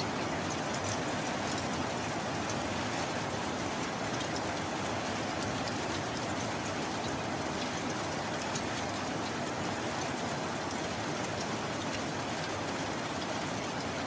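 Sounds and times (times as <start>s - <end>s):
heavy rain falling: 0.0s - 14.0s
rain drops ticking: 0.0s - 14.0s.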